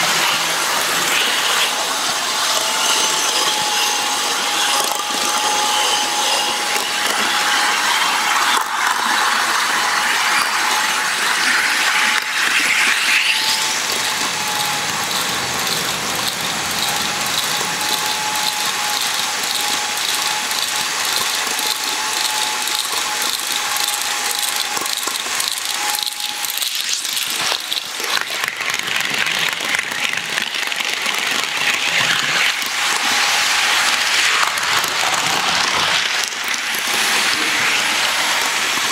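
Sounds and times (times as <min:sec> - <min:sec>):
thin steady whine: 0:00.0 - 0:28.6, 0:30.2 - 0:38.9
model train gearing whir: 0:00.0 - 0:38.9
wheels clicking on rails: 0:00.0 - 0:38.9.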